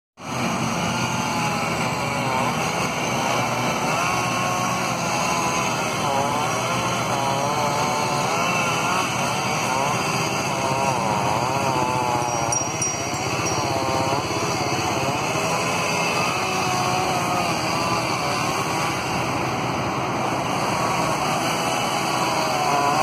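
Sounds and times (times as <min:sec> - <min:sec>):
chainsaw cutting wood: 0:00.2 - 0:23.0.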